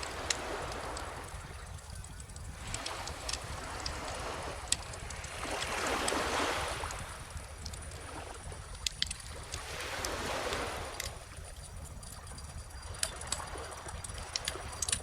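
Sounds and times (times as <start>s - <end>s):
small ocean waves: 0.0s - 15.0s
wood fire crackling and popping: 0.0s - 15.0s.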